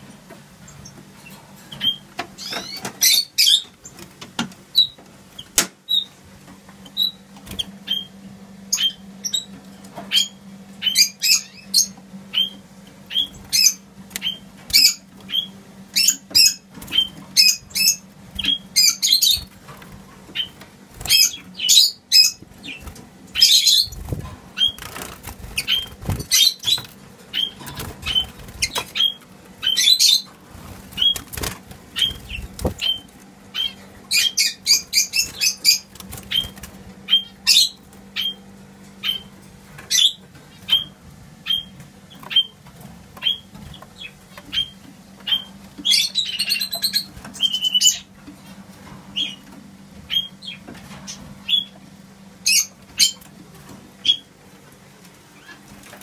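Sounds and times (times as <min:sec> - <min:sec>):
songbirds chirping: 0:00.0 - 0:56.0
steady low hum: 0:00.0 - 0:56.0.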